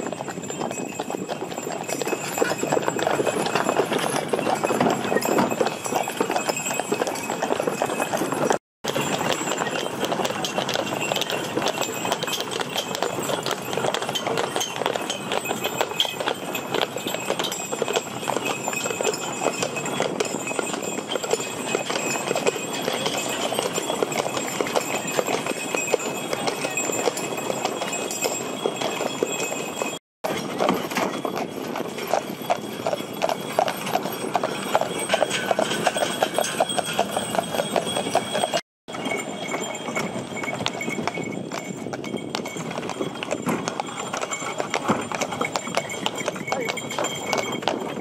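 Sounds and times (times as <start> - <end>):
horse hooves clip-clopping: 0.0 - 48.0.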